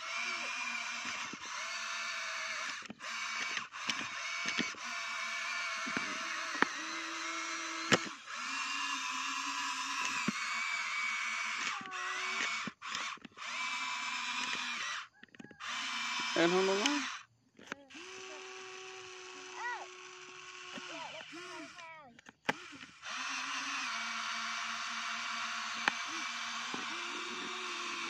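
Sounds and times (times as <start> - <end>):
toy excavator motors whirring: 0.0 - 28.0
sharp clicks: 0.1 - 28.0.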